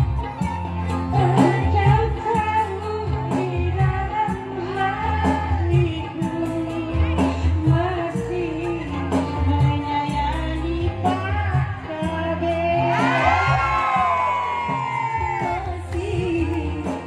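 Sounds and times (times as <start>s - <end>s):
live band playing: 0.0s - 17.0s
women singing through a pa: 0.0s - 17.0s.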